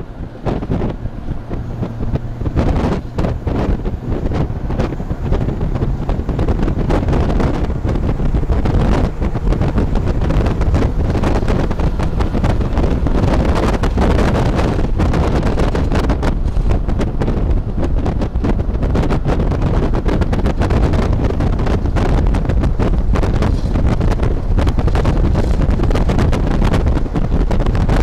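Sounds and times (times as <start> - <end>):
vehicle rumbling at speed: 0.0 - 28.0
wind buffeting microphone: 0.0 - 28.0.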